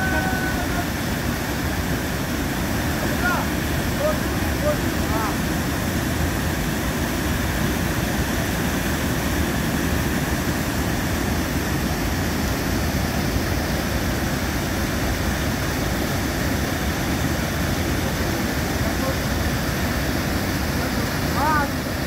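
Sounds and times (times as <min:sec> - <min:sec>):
rain falling steadily: 0:00.0 - 0:22.0.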